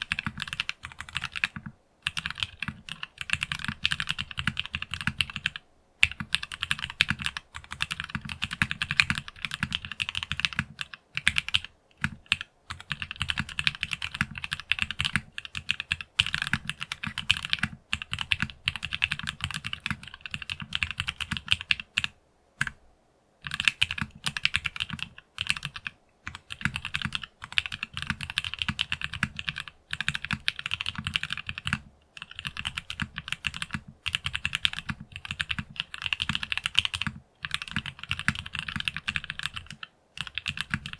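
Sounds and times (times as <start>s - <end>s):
fast typing on mechanical keyboard: 0.0s - 22.8s, 23.4s - 40.9s.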